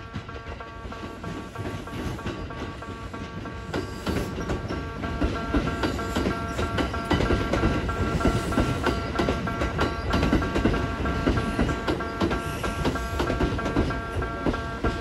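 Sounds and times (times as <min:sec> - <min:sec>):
low train rumble: 0:00.0 - 0:15.0
train wheels clattering on rails: 0:00.0 - 0:15.0.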